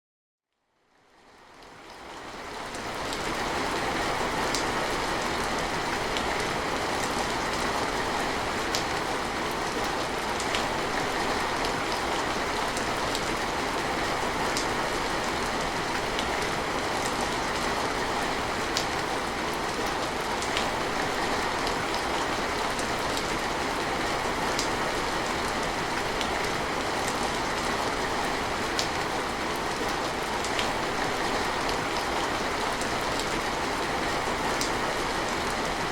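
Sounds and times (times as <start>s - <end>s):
steady rain falling: 0.8s - 35.9s.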